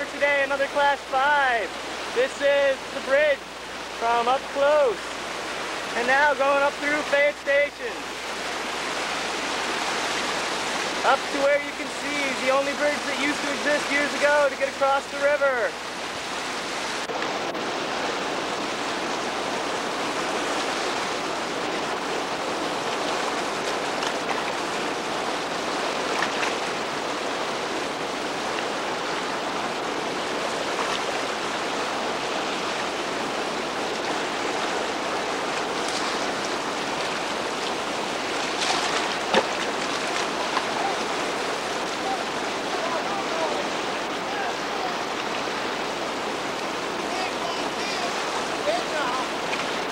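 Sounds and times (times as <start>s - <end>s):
whitewater roaring: 0.0s - 49.9s.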